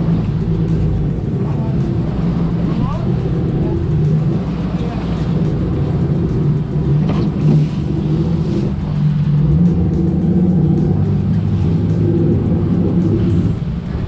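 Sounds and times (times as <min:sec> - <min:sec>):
boat engines droning: 0:00.0 - 0:14.0
water rushing in wake: 0:00.0 - 0:14.0.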